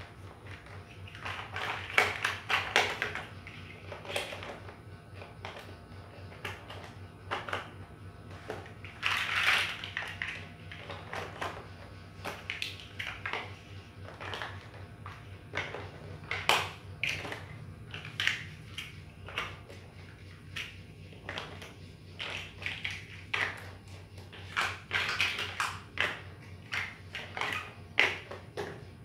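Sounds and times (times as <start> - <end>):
plastic bricks clicking and clattering: 0.0 - 5.7, 6.3 - 28.9.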